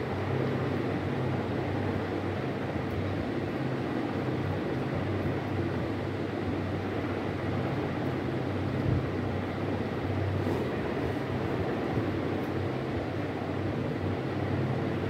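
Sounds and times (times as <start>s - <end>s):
room machinery hum and hiss: 0.0s - 15.0s.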